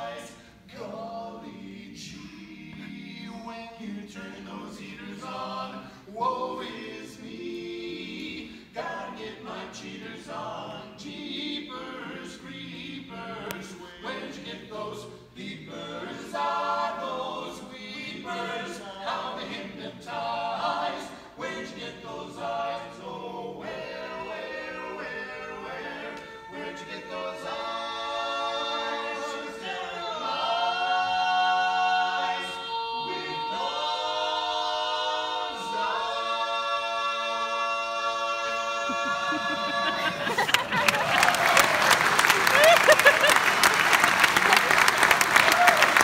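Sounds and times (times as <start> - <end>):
male quartet singing a cappella: 0.0 - 40.7.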